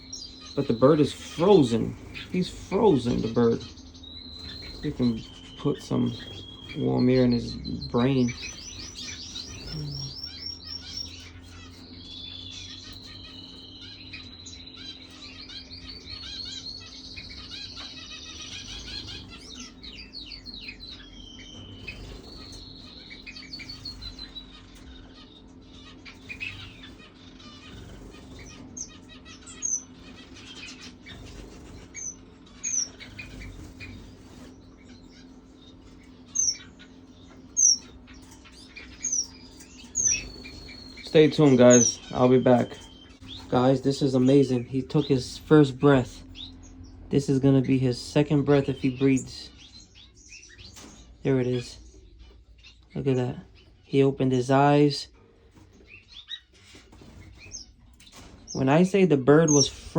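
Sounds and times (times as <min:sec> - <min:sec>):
sharp high bird chirps: 0:00.0 - 0:52.8
small birds chirping: 0:00.0 - 0:59.9
steady low hum: 0:00.0 - 0:59.9.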